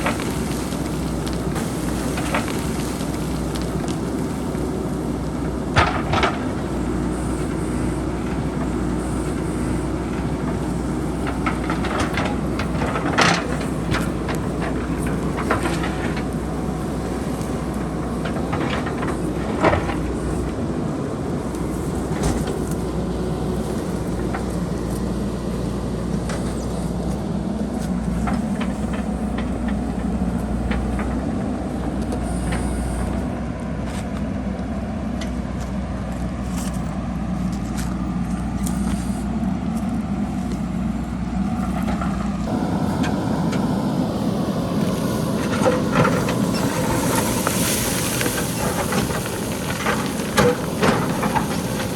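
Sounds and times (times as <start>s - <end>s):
rocks clattering down hillside: 0.0s - 33.2s, 39.7s - 51.9s
diesel engine under load: 0.0s - 51.9s.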